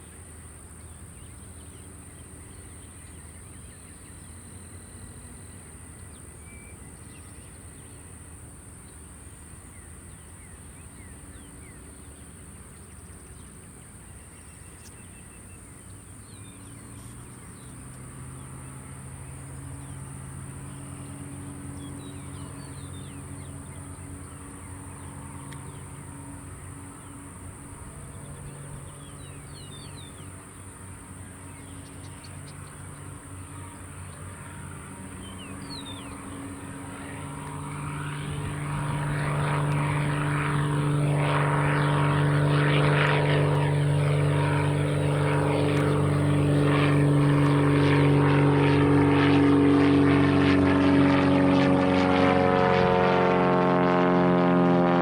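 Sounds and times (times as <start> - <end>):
propeller plane engine running: 0.0 - 55.0.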